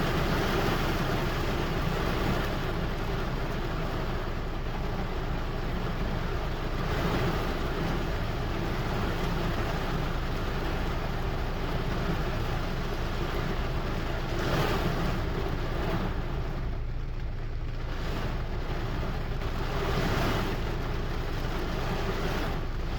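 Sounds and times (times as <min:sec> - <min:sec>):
deep rumble: 0:00.0 - 0:22.9
steady rain: 0:00.0 - 0:22.9
wind: 0:00.0 - 0:22.9.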